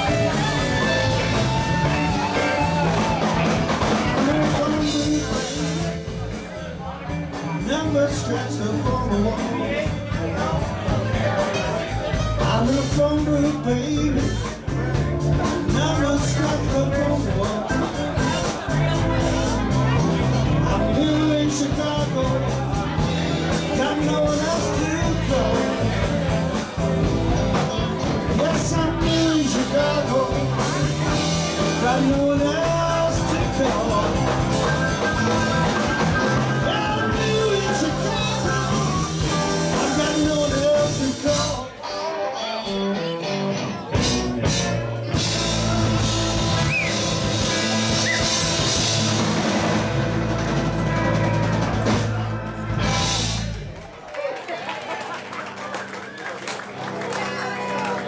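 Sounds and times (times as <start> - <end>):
drum kit: 0.0 - 41.7, 43.9 - 53.9
person singing: 0.0 - 49.8
bass guitar: 0.0 - 53.9
electric guitars: 0.0 - 53.9.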